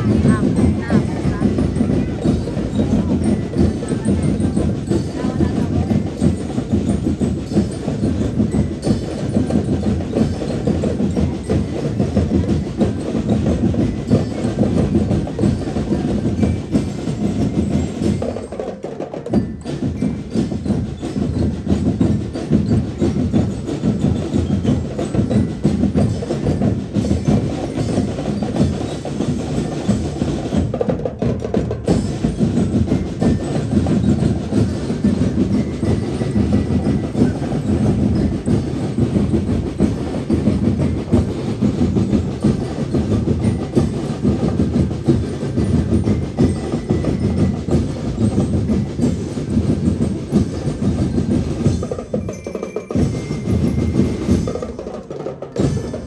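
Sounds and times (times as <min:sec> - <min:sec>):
drum and lyre corps playing: 0:00.0 - 0:56.0
marching drums beating: 0:00.0 - 0:56.0.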